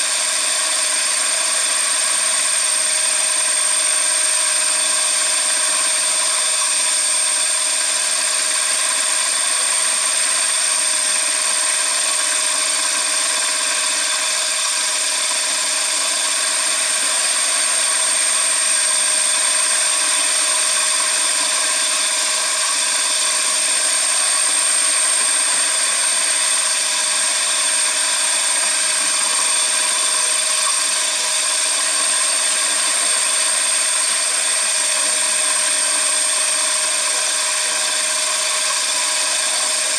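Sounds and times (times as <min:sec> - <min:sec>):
machine high whine: 0:00.0 - 0:39.9.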